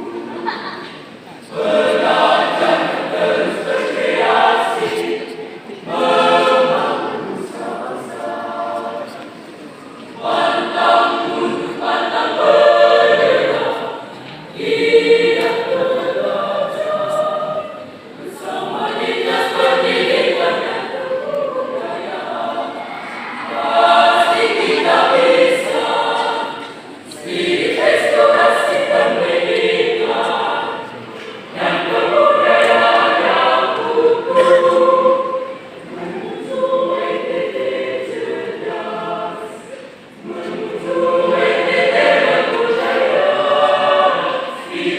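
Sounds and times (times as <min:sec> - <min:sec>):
mixed choir singing: 0:00.0 - 0:44.9.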